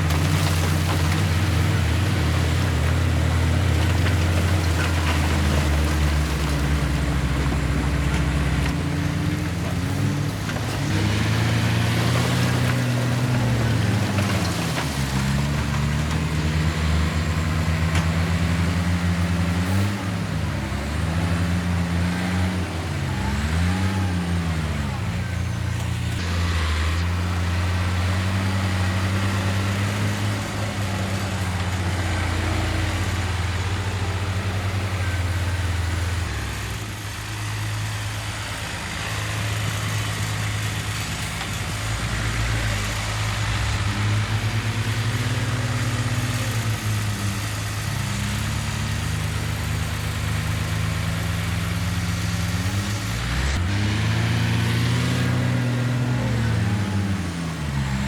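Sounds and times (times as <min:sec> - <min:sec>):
heavy diesel engines of earthmovers: 0:00.0 - 0:58.0.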